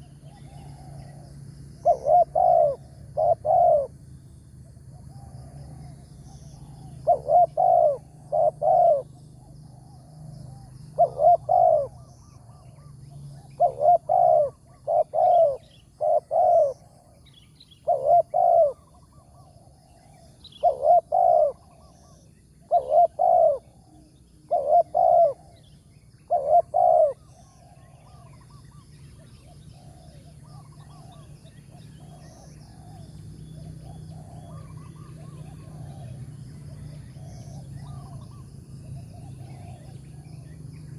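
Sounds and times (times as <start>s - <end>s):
doves cooing: 0.0s - 4.1s, 5.0s - 40.9s.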